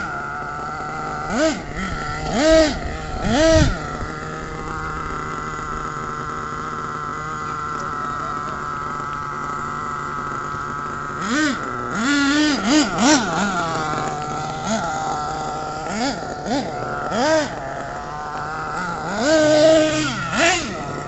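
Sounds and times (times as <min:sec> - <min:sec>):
toy truck motor revving: 0:00.0 - 0:21.0.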